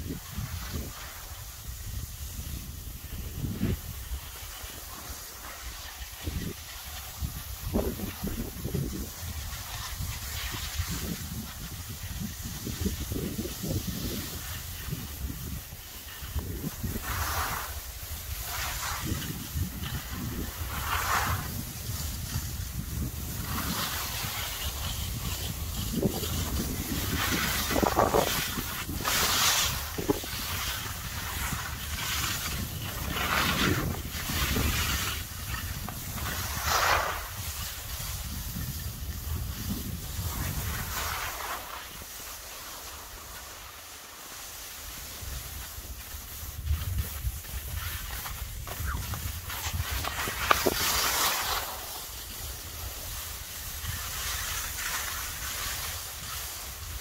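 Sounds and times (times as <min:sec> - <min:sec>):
skis swooshing over snow: 0:00.0 - 0:57.0
wind buffeting microphone: 0:05.8 - 0:42.1, 0:45.1 - 0:57.0.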